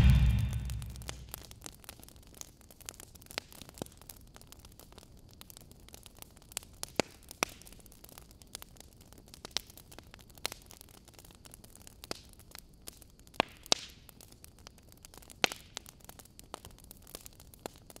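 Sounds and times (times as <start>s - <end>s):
sharp crackles and pops: 0.0s - 18.0s.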